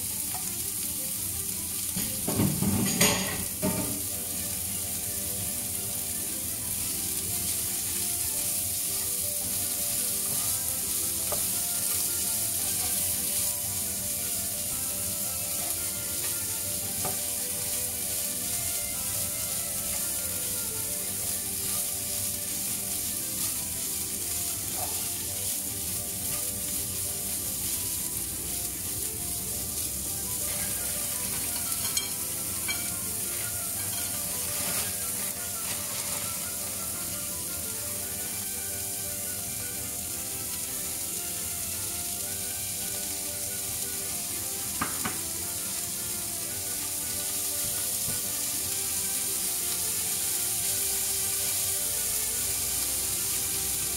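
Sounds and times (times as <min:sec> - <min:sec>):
sausage and onion sizzling: 0:00.0 - 0:53.9.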